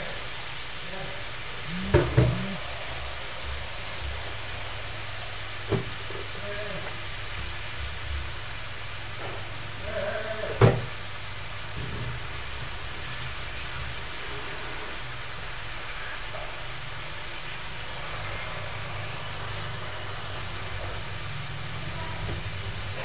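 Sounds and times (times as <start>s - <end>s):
chicken sizzling in a wok: 0.0s - 23.0s.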